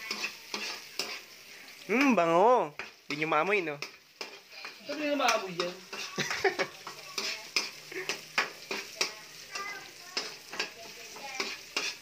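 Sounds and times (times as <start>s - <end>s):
metal ladle scraping a wok: 0.0s - 1.8s, 2.8s - 9.2s, 10.1s - 12.0s
food sizzling in hot oil: 0.0s - 12.0s.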